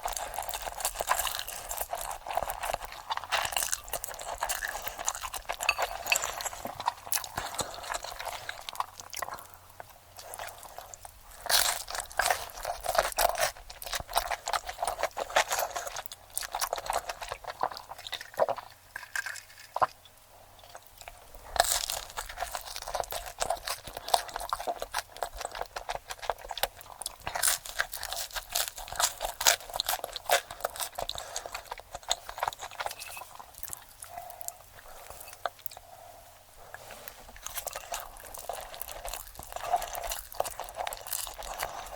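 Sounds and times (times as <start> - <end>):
crunching and chewing crisp food: 0.0 - 41.9.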